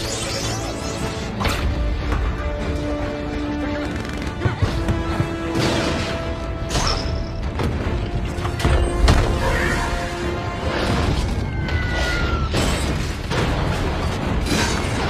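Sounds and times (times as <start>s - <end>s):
action film score music: 0.0s - 15.0s.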